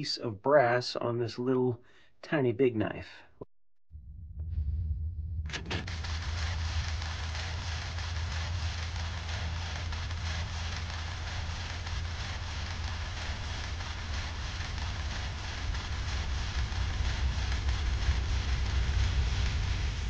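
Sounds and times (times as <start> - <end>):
low hum: 3.9 - 20.0.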